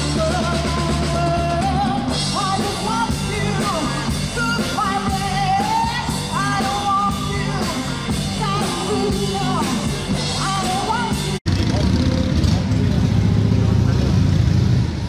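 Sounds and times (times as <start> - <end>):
rock music with singing: 0.0 - 13.7.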